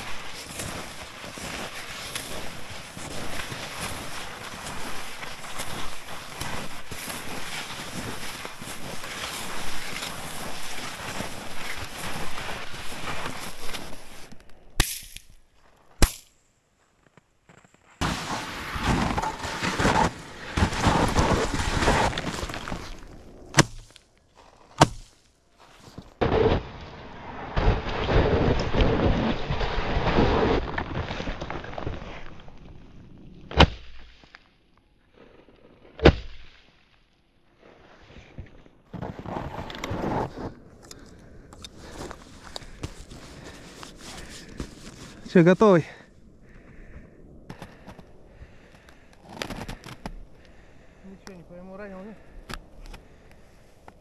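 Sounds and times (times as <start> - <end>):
skis sliding over snow: 0.0 - 14.4, 17.0 - 33.2, 37.5 - 46.9, 47.5 - 54.0.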